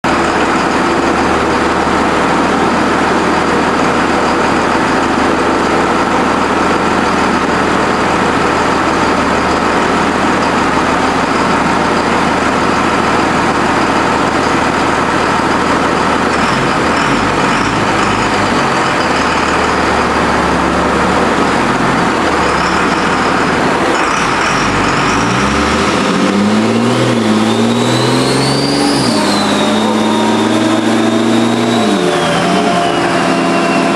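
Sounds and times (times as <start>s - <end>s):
truck engine roaring under load: 0.0s - 33.9s.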